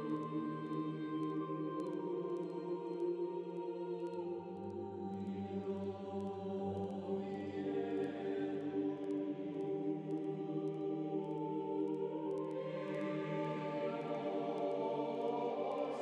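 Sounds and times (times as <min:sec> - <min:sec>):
slow choral chords: 0:00.0 - 0:16.0.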